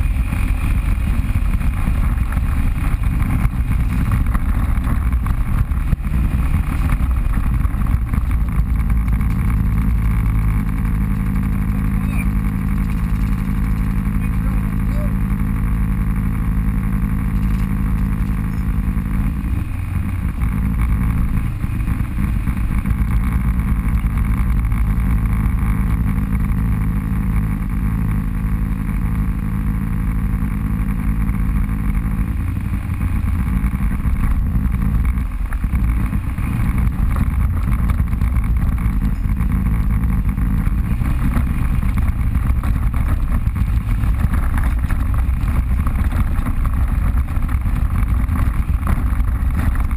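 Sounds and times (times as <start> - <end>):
off-road vehicle engine running: 0.0 - 49.9.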